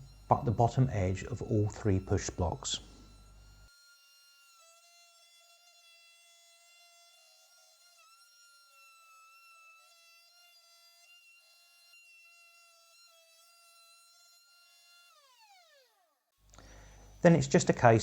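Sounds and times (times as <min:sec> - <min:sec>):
router high-pitched whine: 0:00.0 - 0:16.0.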